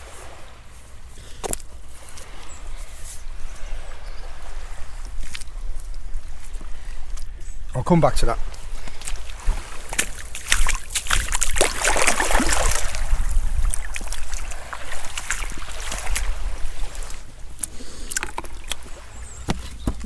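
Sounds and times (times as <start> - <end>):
seawater lapping: 0.0 - 20.0
wind rumbling on microphone: 0.0 - 20.0.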